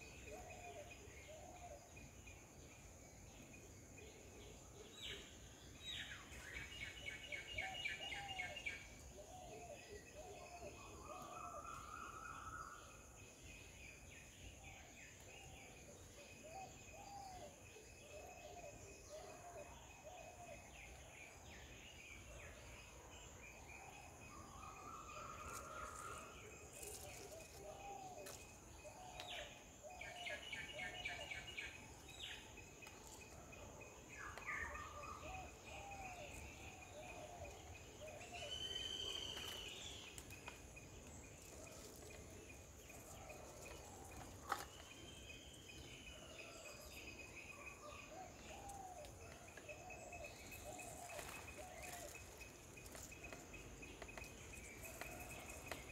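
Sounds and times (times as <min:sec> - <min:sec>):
insect drone: 0:00.0 - 0:55.9.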